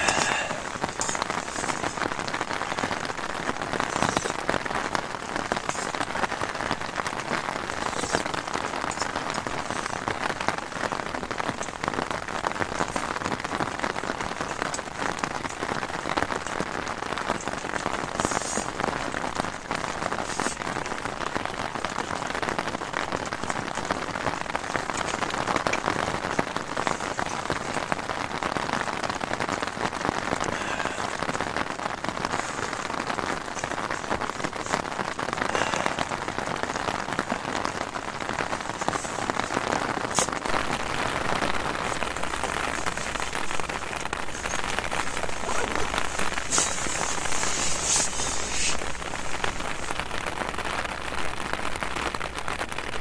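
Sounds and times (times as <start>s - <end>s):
heavy rain on tent fabric: 0.0s - 53.0s.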